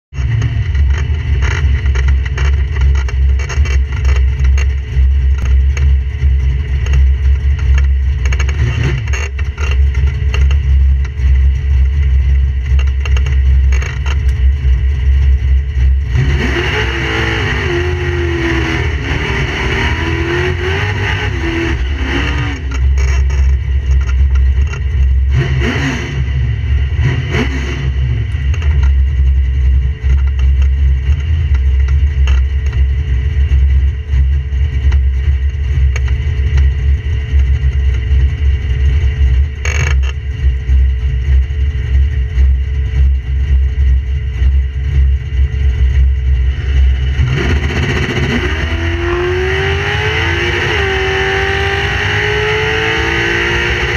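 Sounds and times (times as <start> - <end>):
car engine idling rumble: 0.1 - 16.4, 21.3 - 50.2.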